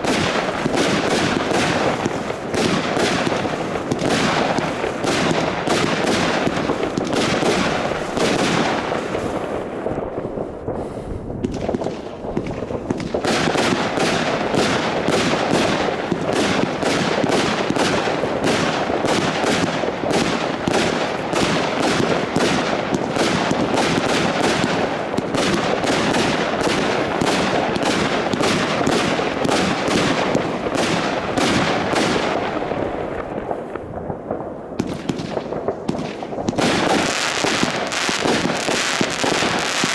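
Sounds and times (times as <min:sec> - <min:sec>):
firework shots and bangs: 0:00.0 - 0:39.9.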